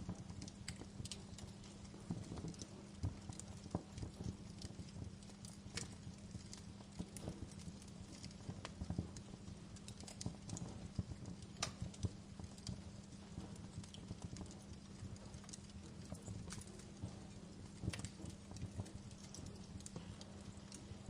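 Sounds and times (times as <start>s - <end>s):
low steady hum: 0.0s - 21.0s
wood fire crackling: 0.0s - 21.0s.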